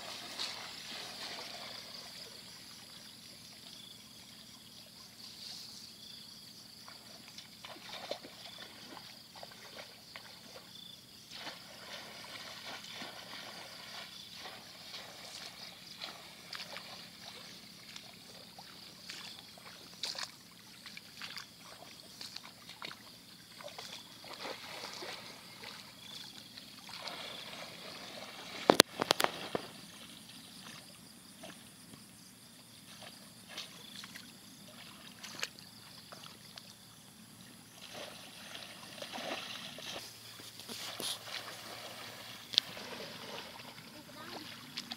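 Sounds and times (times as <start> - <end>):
shallow water sloshing and splashing: 0.0 - 5.9, 6.6 - 44.9.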